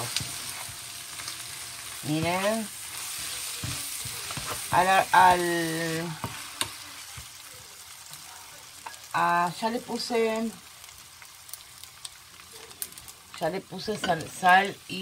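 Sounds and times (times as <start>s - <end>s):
fried rice sizzling in a frying pan: 0.0s - 15.0s.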